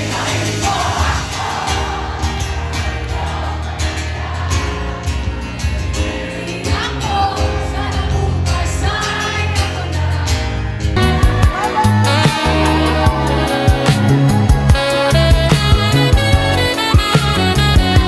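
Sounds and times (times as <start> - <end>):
song with singing voice: 0.0 - 18.0.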